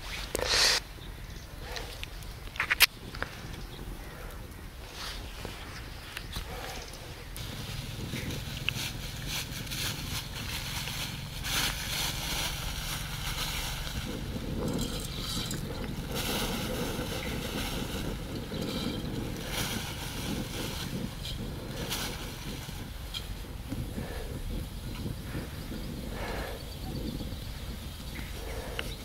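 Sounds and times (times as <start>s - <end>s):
wind rumble on microphone: 0.0s - 29.0s
rustling and crackling: 1.6s - 29.0s.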